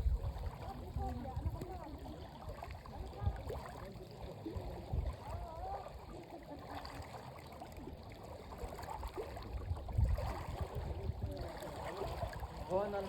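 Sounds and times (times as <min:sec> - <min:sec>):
faint chatter of voices: 0:00.0 - 0:13.0
water sloshing and lapping: 0:00.0 - 0:13.0.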